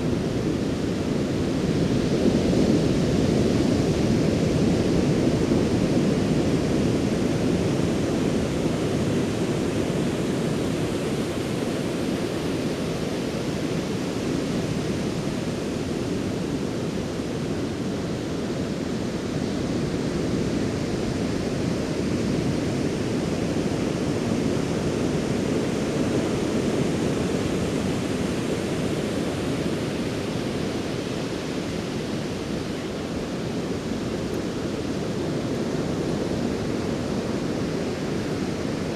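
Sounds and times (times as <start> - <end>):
ocean waves washing ashore: 0.0 - 38.9.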